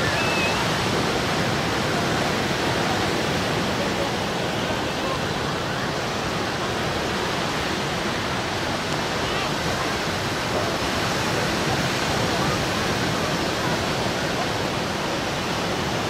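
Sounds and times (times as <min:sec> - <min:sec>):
waves washing up a beach: 0:00.0 - 0:16.0.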